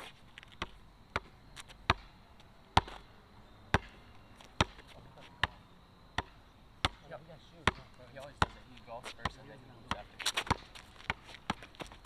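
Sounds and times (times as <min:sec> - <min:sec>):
basketball bouncing on court: 0:00.6 - 0:03.0, 0:03.7 - 0:05.6, 0:06.2 - 0:12.0.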